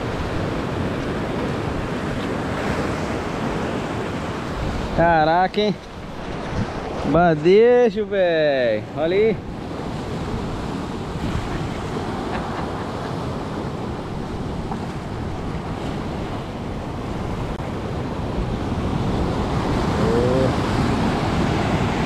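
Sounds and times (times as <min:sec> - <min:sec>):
wind buffeting microphone: 0:00.0 - 0:07.5, 0:08.4 - 0:22.0
surf breaking on rocky shore: 0:00.0 - 0:22.0.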